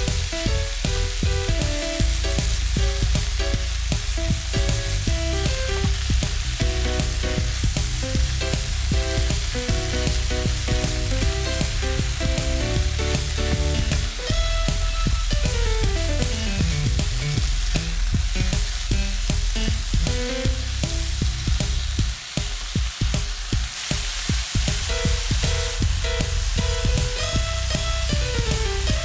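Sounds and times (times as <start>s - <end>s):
background music with bass: 0.0s - 23.6s, 24.4s - 29.0s
vegetables sizzling in hot oil: 0.0s - 29.0s.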